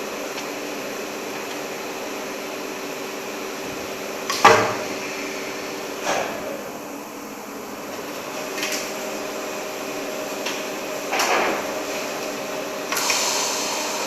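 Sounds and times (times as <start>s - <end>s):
welding machine hum and hiss: 0.0s - 14.0s.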